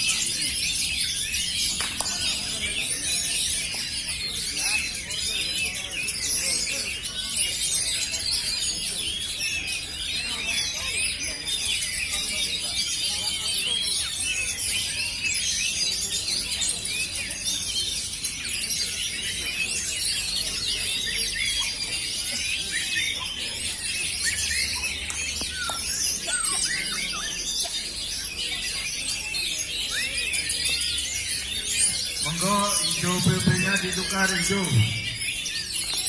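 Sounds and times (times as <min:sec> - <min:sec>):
chorus of birds singing: 0:00.0 - 0:36.0.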